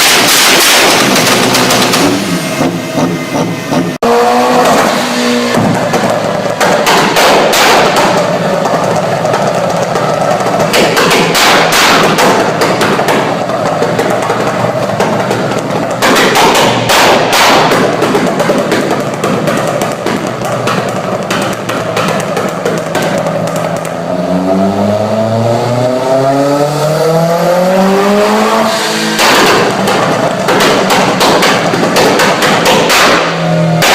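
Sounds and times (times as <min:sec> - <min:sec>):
car engine running: 0:00.0 - 0:33.9
exhaust crackling and popping: 0:00.0 - 0:33.9.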